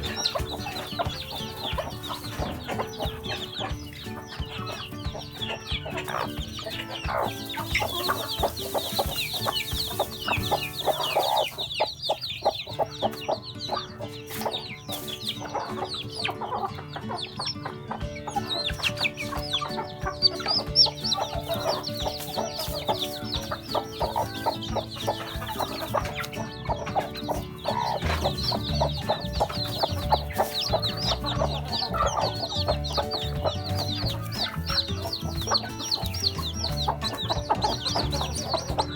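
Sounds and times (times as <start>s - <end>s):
background music with held notes: 0.0s - 38.9s
chicks peeping: 0.0s - 38.9s
hen clucking: 0.0s - 38.9s.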